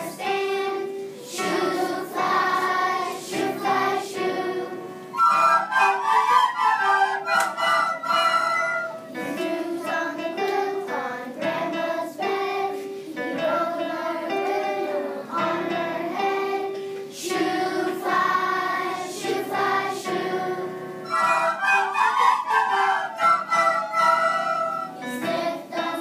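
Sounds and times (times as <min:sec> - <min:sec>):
children singing together: 0:00.0 - 0:26.0.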